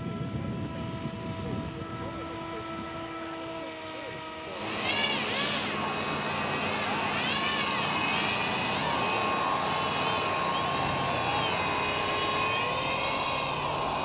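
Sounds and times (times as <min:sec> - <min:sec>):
model hovercraft fans whirring: 0:00.0 - 0:14.0.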